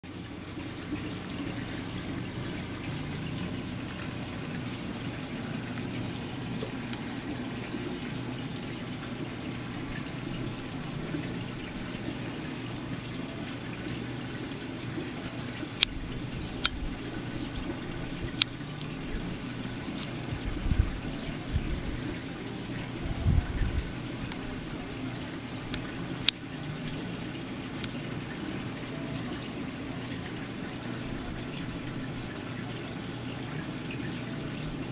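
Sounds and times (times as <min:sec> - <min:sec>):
water trickling and pouring: 0:00.0 - 0:34.9.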